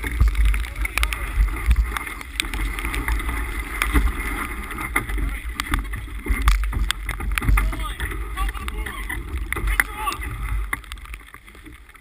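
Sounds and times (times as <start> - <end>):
sail and rigging knocking and flapping: 0.0 - 12.0
water rushing along hull: 0.0 - 12.0.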